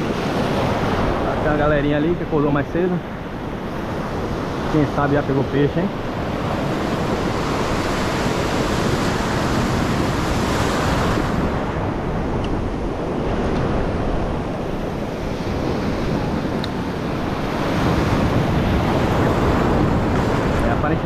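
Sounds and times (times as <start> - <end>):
surf washing onto rocky shore: 0.0 - 21.0
wind buffeting microphone: 0.0 - 21.0.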